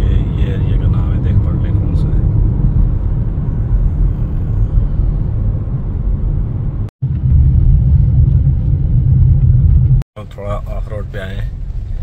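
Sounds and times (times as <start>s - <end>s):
car rumbling over rough track: 0.0s - 12.0s.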